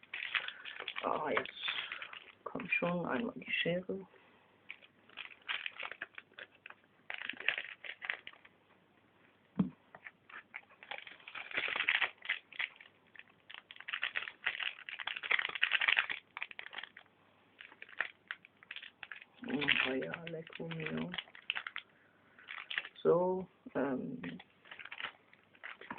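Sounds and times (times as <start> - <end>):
foil wrappers crinkling: 0.0 - 3.6, 4.7 - 8.5, 9.9 - 23.1, 24.1 - 25.9.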